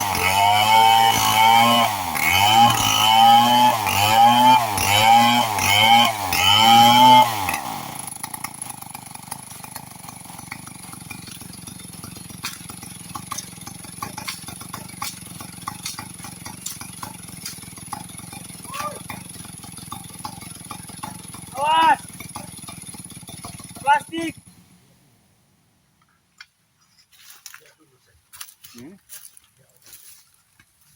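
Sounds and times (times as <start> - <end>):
chainsaw engine revving: 0.0 - 25.2.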